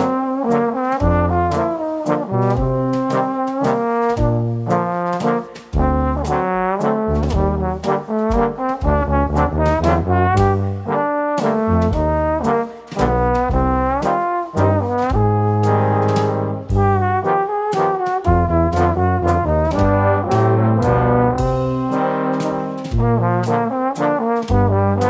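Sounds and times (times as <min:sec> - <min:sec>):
background music with steady beat: 0:00.0 - 0:25.0.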